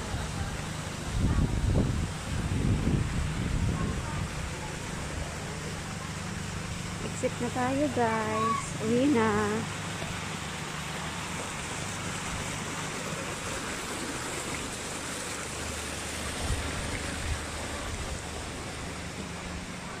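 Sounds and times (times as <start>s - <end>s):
rushing outdoor noise: 0.0s - 20.0s.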